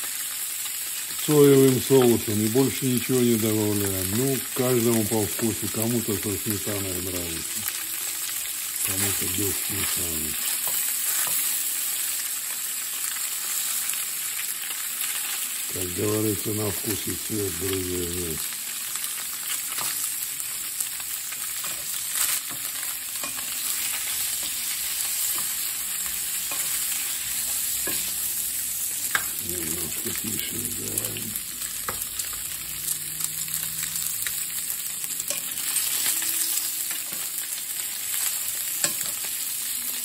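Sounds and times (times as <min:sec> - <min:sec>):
dumplings sizzling in a skillet: 0:00.0 - 0:40.0.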